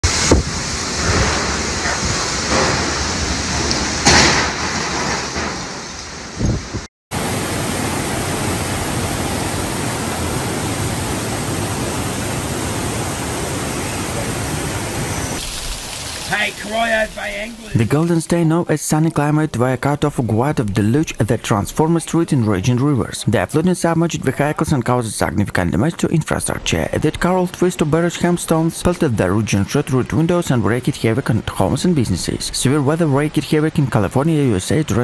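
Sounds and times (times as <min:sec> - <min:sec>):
floodwater rushing through street: 0:00.0 - 0:05.2, 0:07.2 - 0:35.0
heavy rain: 0:00.0 - 0:22.3, 0:23.7 - 0:35.0
wind: 0:00.0 - 0:35.0.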